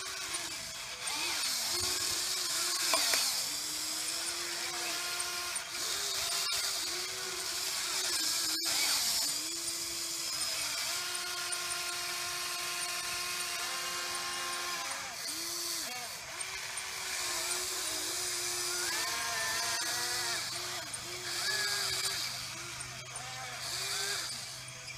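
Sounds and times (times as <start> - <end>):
electric motors whining: 0.0 - 24.9.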